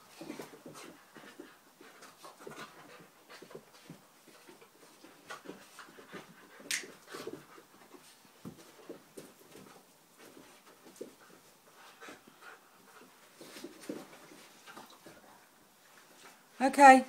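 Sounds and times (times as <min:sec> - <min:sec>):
dogs panting: 0:00.0 - 0:15.5
dogs scuffling: 0:00.0 - 0:16.6.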